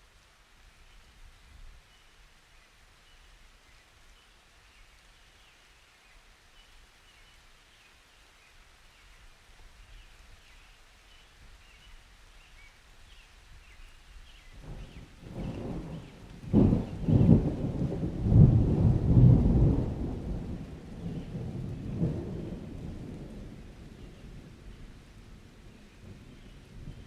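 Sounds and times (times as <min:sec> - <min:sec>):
light rain: 0:00.0 - 0:27.0.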